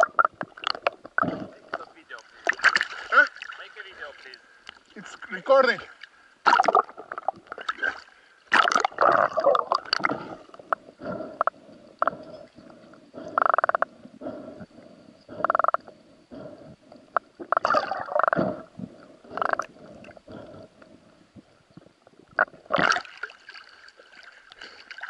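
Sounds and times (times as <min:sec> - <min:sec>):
underwater water sloshing and gurgling: 0:00.0 - 0:25.0.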